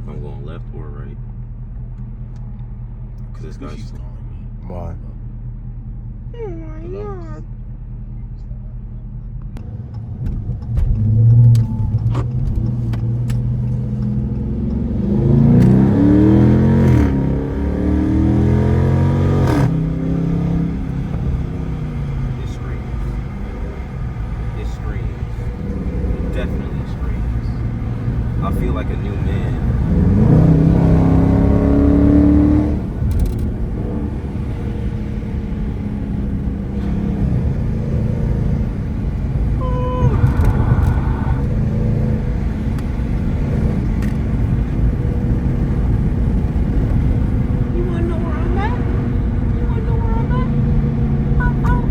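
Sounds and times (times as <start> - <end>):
car engine accelerating hard: 7.5 - 51.9.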